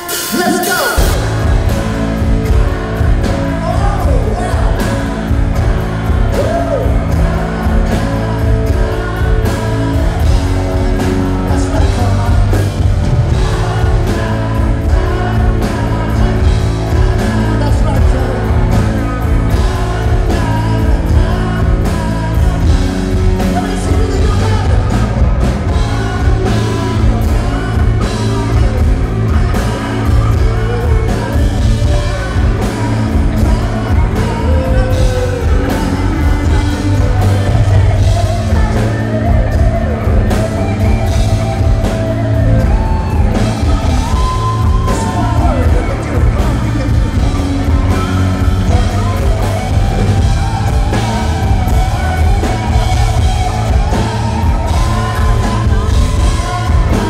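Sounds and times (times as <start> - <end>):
bass guitar: 0.0 - 57.0
electric guitars: 0.0 - 57.0
person singing lead vocal: 0.0 - 57.0
steady drum beat: 0.0 - 57.0.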